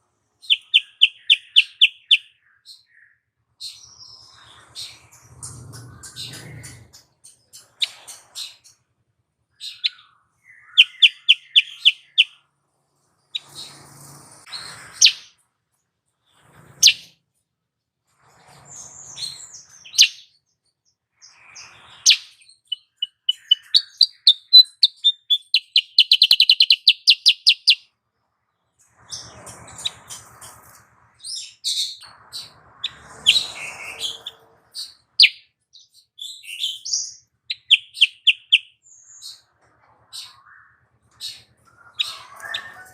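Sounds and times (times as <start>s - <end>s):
bird chirps and rattling trills: 3.6s - 17.4s, 18.0s - 42.9s.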